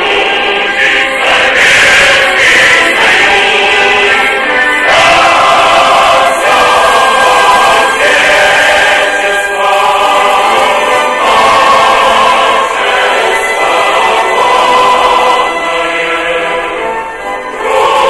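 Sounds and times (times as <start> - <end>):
choir singing held chords: 0.0 - 18.0.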